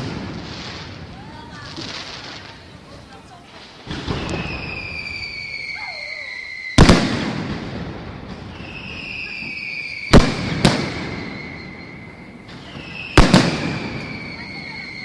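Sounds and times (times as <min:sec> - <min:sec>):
firework bangs: 0:00.0 - 0:15.0
firework whistling: 0:00.0 - 0:15.0.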